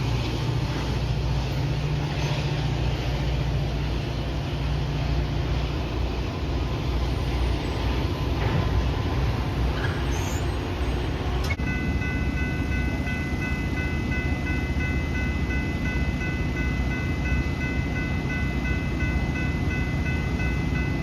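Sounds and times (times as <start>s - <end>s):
train running: 0.0s - 21.0s.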